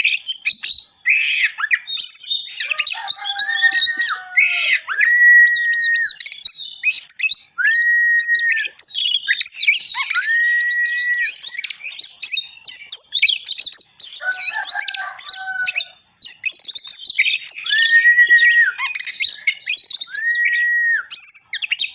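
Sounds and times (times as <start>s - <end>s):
bird singing: 0.0s - 21.9s
long level bird whistle: 0.0s - 21.9s.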